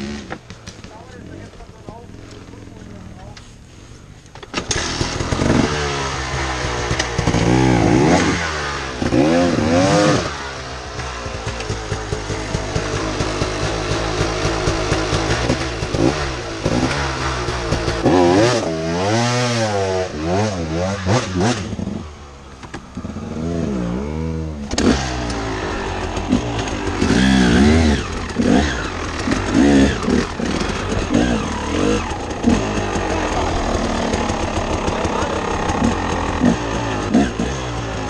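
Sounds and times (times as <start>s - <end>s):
dirt bike engine revving: 0.0s - 3.4s, 4.5s - 38.0s.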